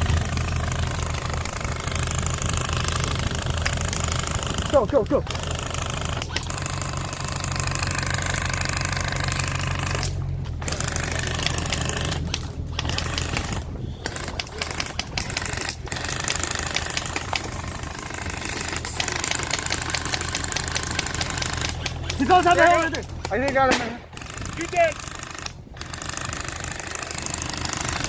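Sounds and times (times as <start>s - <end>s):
airsoft minigun firing bursts: 0.0s - 28.0s
vehicle engine hum: 0.0s - 28.0s.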